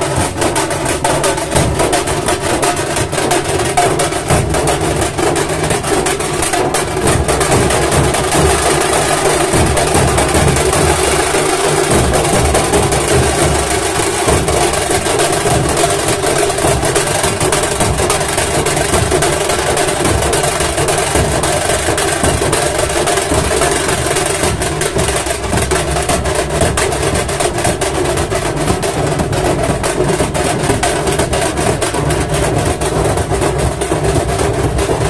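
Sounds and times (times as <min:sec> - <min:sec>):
loud barrel drumming: 0:00.0 - 0:35.0.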